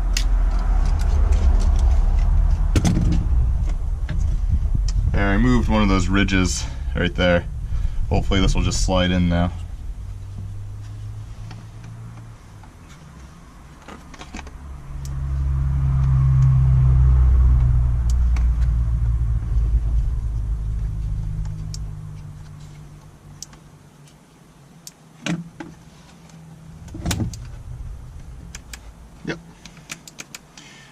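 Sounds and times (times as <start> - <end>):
vehicle passing rumble: 0.0 - 24.0, 25.7 - 29.9.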